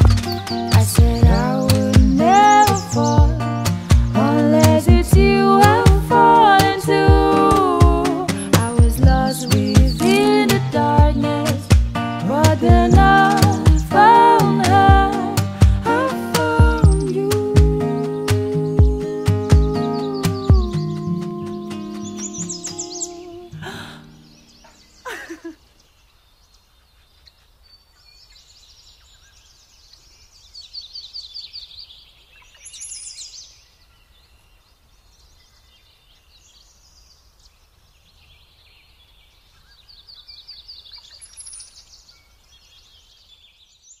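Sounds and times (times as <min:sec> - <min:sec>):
birds singing: 0:00.0 - 0:44.0.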